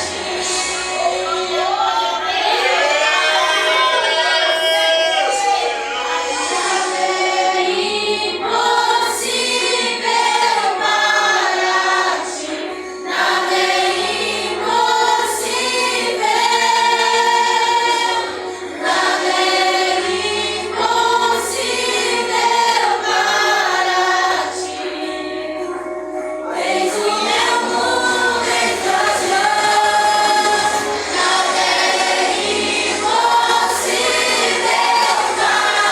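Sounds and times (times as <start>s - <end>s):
vocal group singing in harmony: 0.0s - 35.9s.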